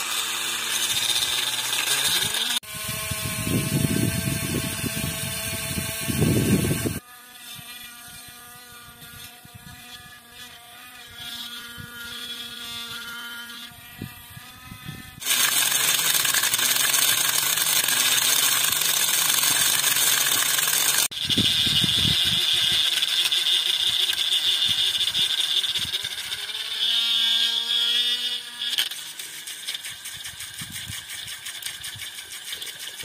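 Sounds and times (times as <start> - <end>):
small electric motor whining: 0.0 - 33.0.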